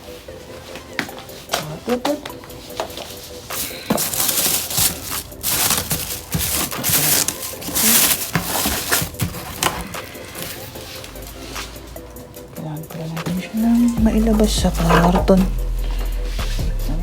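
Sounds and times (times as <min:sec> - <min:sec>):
cardboard and packing rustling: 0:00.0 - 0:17.0.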